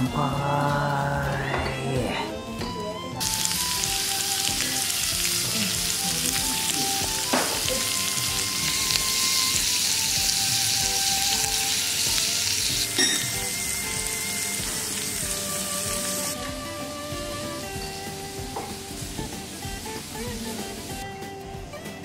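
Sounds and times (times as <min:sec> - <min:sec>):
meat sizzling on griddle: 0:03.2 - 0:21.0.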